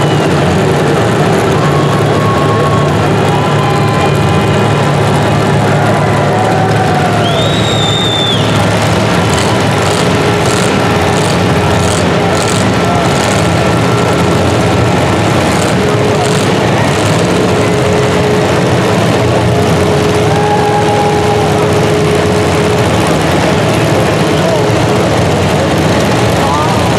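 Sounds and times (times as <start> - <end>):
loud racing engine: 0.0 - 26.9.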